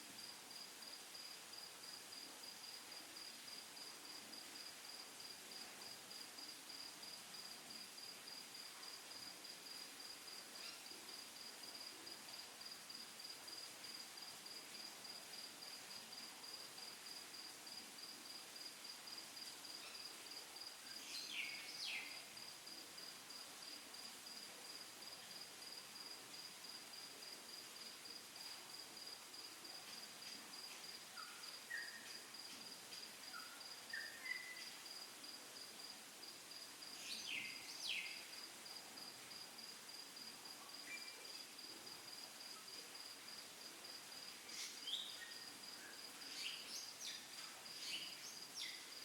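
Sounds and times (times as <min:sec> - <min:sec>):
crickets chirping: 0:00.2 - 0:49.0.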